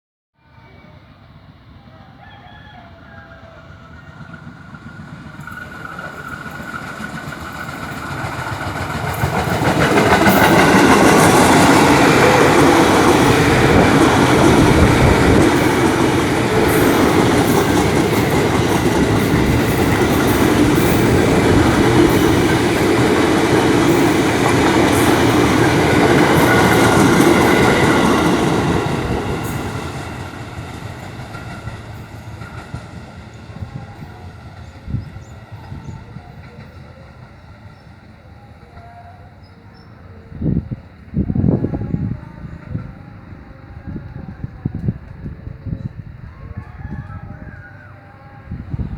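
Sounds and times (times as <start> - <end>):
electric train passing: 0.4 - 48.9.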